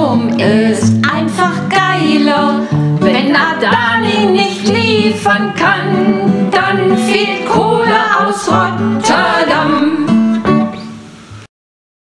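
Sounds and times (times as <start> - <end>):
person singing: 0.0 - 10.4
strummed guitar: 0.0 - 11.5.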